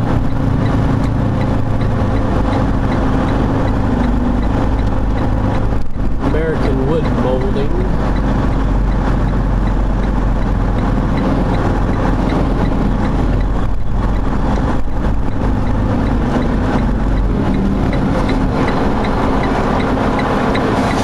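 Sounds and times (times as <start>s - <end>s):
faint regular ticking: 0.0s - 21.0s
truck diesel engine running: 0.0s - 21.0s.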